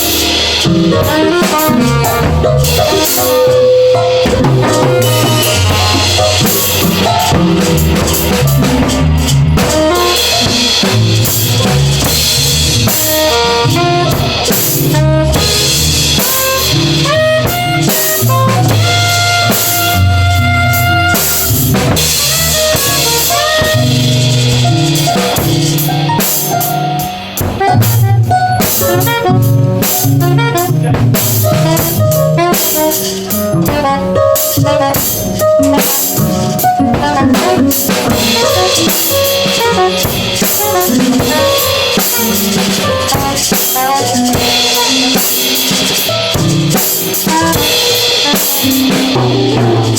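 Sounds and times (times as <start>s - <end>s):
drum kit busy beat: 0.0s - 49.9s
live band playing: 0.0s - 49.9s.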